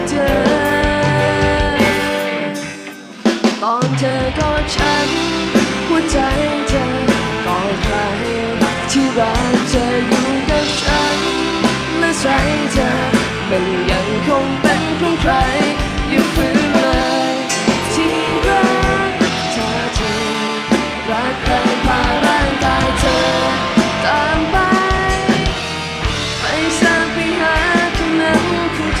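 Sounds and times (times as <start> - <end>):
person singing: 0.0 - 3.0, 3.6 - 25.8, 26.4 - 29.0
drum kit: 0.0 - 29.0
electric guitar: 0.0 - 29.0.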